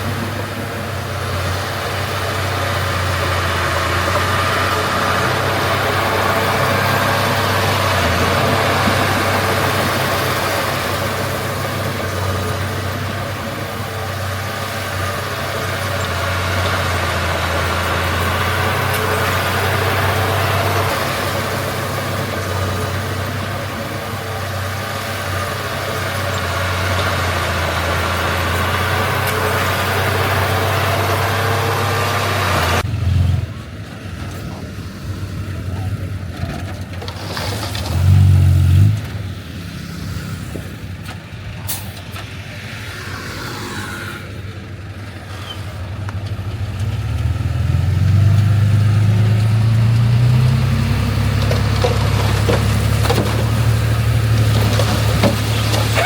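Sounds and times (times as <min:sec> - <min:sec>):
heavy diesel engines running: 0:00.0 - 0:56.0
quieter engine: 0:00.0 - 0:56.0.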